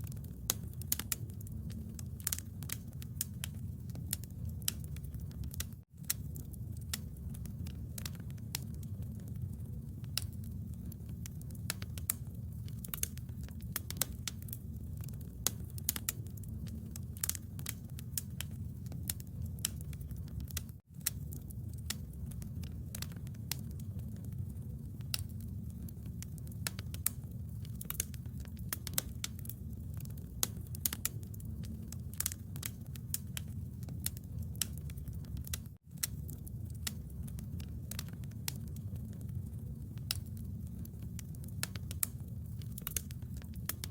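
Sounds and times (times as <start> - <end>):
bonfire crackling and popping: 0.0 - 43.9.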